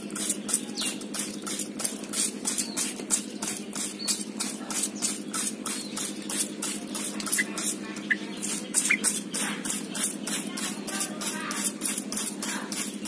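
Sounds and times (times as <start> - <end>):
spray bottle squirting: 0.1 - 13.0.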